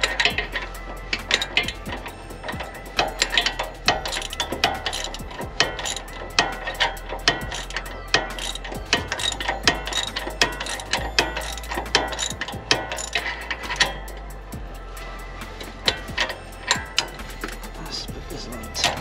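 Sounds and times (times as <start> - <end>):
ratchet wrench clicking: 0.0 - 19.0.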